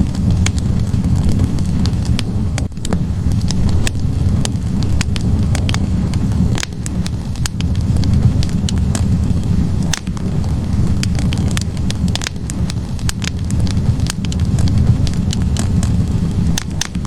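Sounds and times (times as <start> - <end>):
logs crackling and popping: 0.0 - 17.0
low rush of flames: 0.0 - 17.0.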